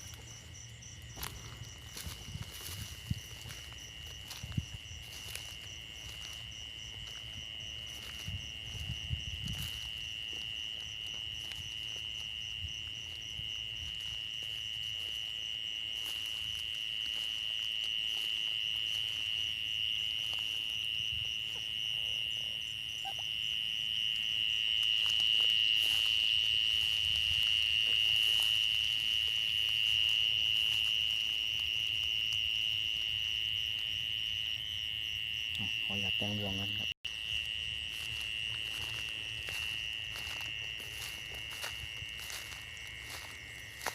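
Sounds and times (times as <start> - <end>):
insects and frogs trilling: 0.0 - 43.9.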